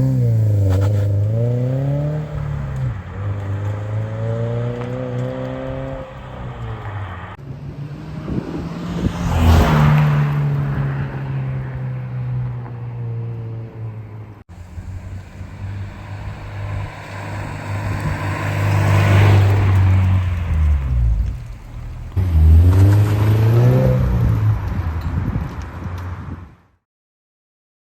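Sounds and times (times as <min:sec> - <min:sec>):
car engine idling and revving: 0:00.0 - 0:26.2.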